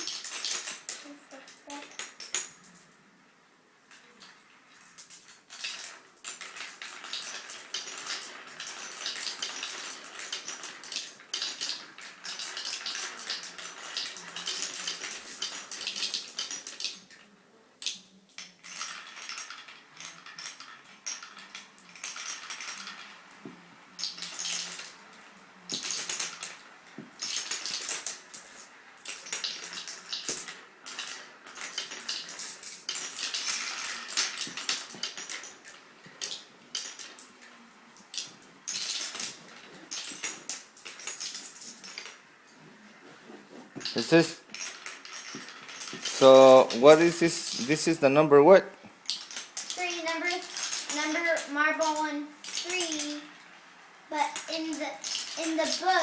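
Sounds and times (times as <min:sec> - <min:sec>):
marbles clattering down marble run: 0:00.0 - 0:02.9, 0:03.9 - 0:42.4, 0:43.8 - 0:56.0.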